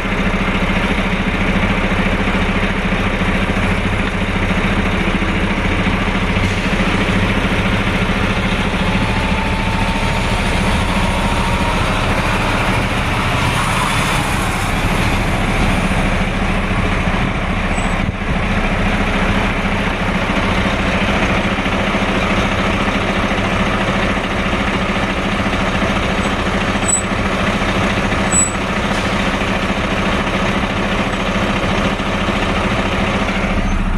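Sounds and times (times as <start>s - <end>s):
road noise: 0.0s - 33.9s
truck engines running: 0.0s - 33.9s.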